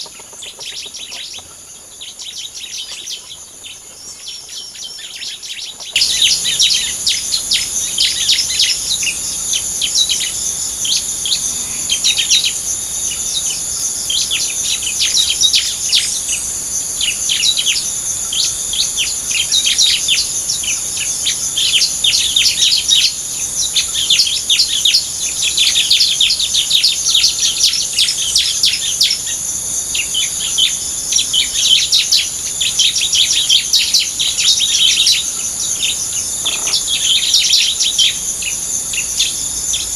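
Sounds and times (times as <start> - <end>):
high-pitched insect drone: 0.0 - 39.9
songbirds chirping: 0.0 - 39.9.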